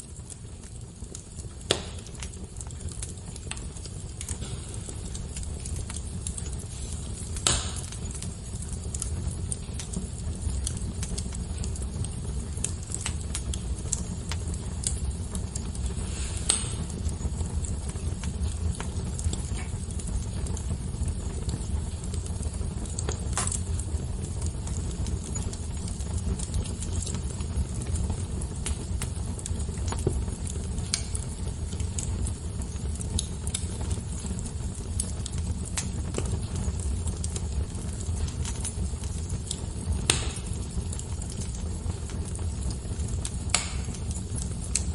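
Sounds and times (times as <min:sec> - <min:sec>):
fire crackling and popping: 0:00.0 - 0:44.9
steady low rumble: 0:01.4 - 0:44.9.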